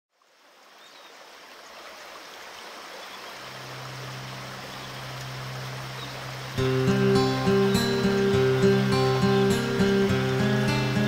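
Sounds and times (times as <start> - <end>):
river water rushing: 0.2 - 11.0.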